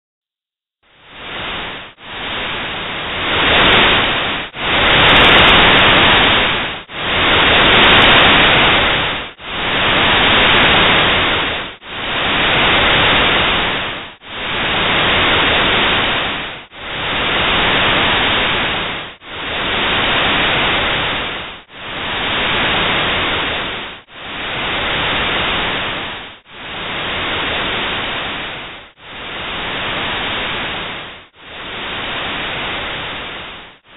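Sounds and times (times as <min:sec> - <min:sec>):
pulsing white noise hiss: 0:00.8 - 0:33.9.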